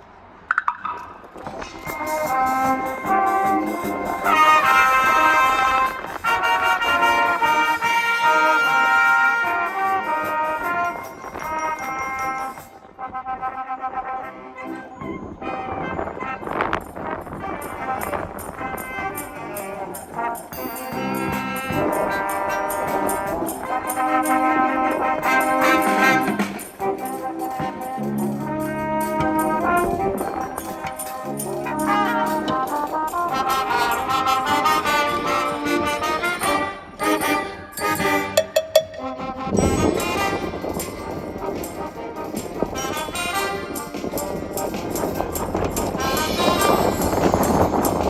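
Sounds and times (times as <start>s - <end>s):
steady percussion beat: 1.5s - 12.6s, 16.8s - 48.0s
brass band playing chords: 1.6s - 48.0s.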